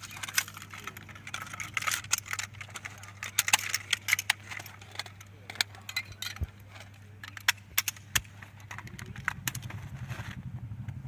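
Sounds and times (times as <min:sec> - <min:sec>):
metallic rifle parts clicking: 0:00.0 - 0:10.0
steady low hum: 0:00.0 - 0:11.0.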